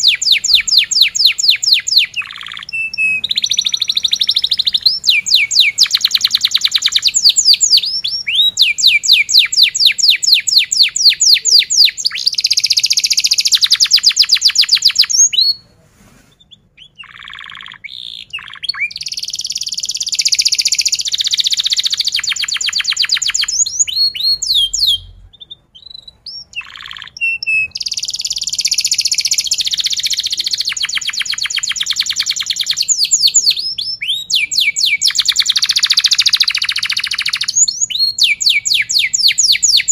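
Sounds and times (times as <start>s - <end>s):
canary trilling: 0.0s - 15.6s, 16.4s - 39.9s.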